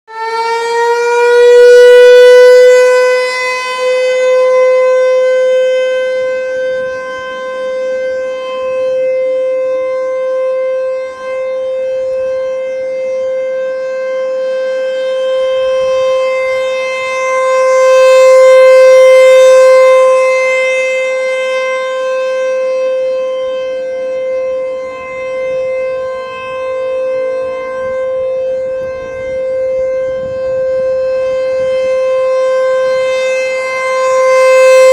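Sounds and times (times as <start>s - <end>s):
emergency warning siren: 0.0s - 34.9s.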